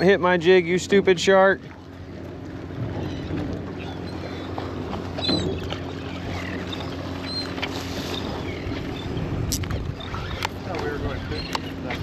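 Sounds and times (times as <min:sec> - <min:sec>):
boat engine idling: 0:00.0 - 0:12.0
water noise: 0:00.0 - 0:12.0.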